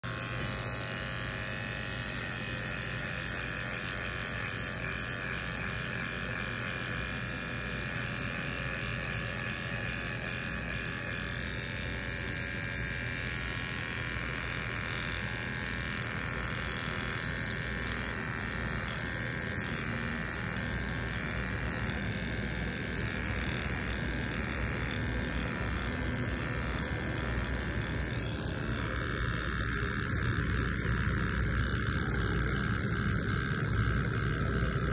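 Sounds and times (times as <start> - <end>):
electric hair trimmer buzzing: 0.0 - 34.9.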